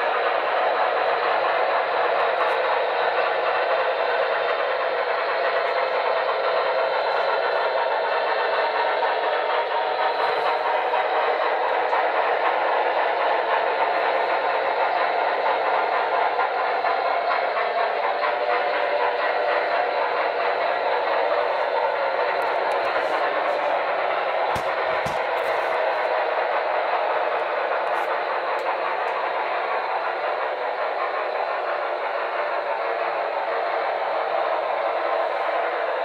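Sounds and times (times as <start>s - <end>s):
model steam locomotive sounds: 0.0s - 36.0s.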